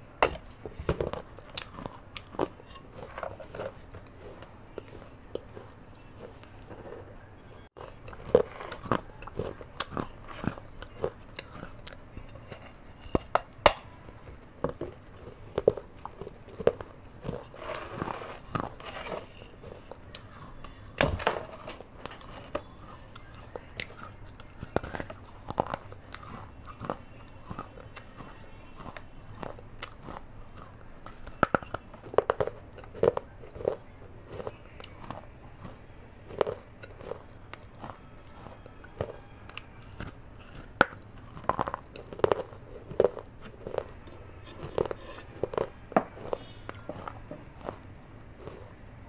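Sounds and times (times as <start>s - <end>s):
chewing crunchy clay pieces: 0.0s - 49.0s.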